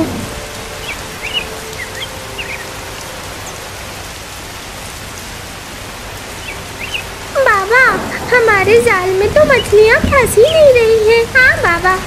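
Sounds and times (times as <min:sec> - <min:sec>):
rain pouring: 0:00.0 - 0:12.0.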